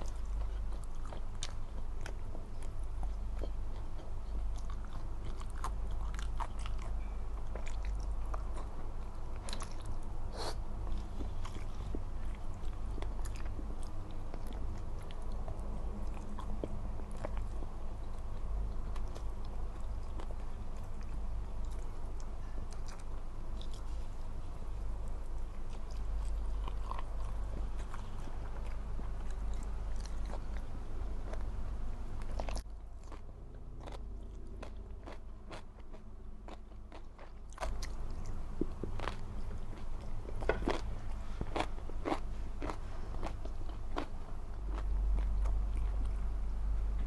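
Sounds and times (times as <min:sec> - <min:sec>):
person chewing food: 0:00.0 - 0:31.5, 0:32.2 - 0:46.3
steady low hum: 0:00.0 - 0:47.0.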